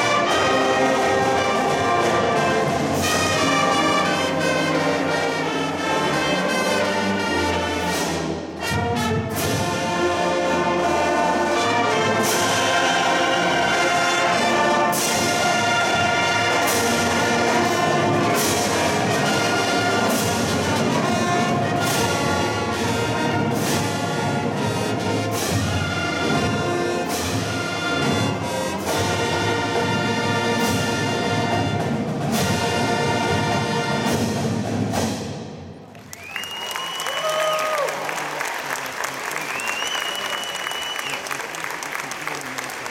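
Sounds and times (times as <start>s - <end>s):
marching band playing: 0.0s - 38.6s.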